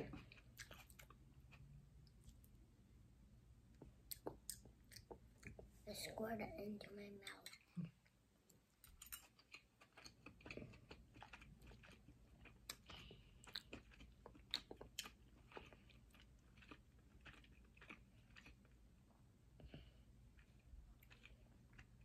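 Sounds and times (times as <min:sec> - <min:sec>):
faint close-up chewing: 0:00.0 - 0:02.6, 0:03.7 - 0:05.8, 0:07.2 - 0:22.0.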